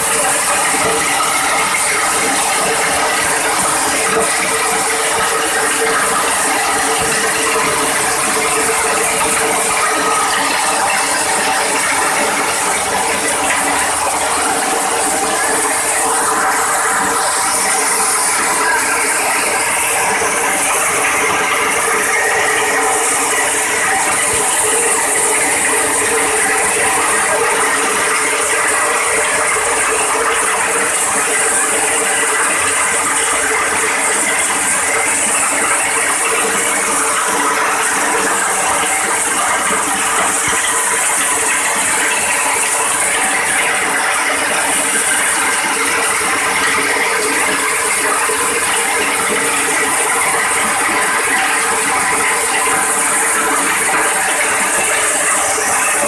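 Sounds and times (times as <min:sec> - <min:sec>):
hammer mill motor hum: 0:00.0 - 0:56.0.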